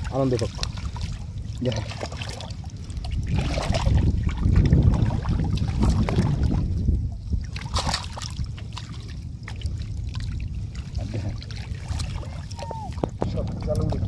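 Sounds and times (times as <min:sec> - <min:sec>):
shallow water sloshing and splashing: 0:00.0 - 0:14.0.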